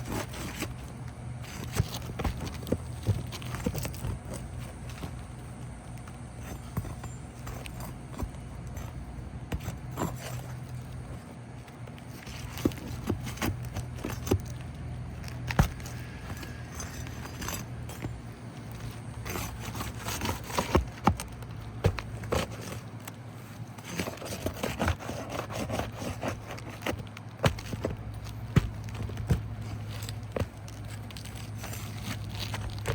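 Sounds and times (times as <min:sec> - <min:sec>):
tools scraping roof shingles: 0:00.0 - 0:32.9.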